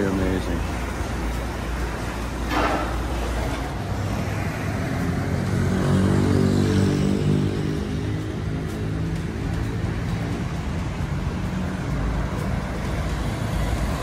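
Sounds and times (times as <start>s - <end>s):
low traffic rumble: 0.0s - 14.0s.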